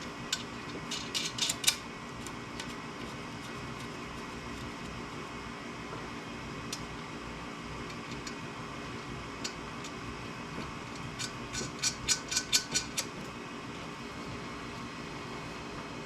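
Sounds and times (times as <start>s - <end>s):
fan-like hum: 0.0s - 16.0s.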